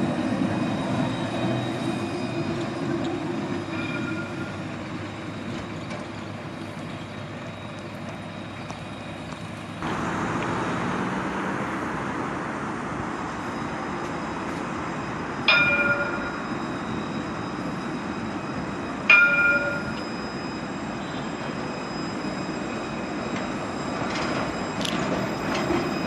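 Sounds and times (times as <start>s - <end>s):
tram warning gong: 0.0s - 6.6s, 8.2s - 26.0s
tram wheels rumbling: 0.0s - 26.0s.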